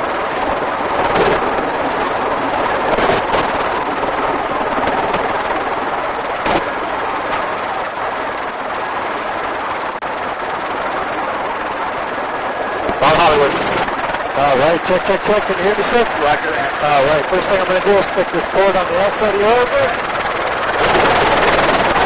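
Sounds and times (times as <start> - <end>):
helicopter turbine and rotor: 0.0 - 22.0.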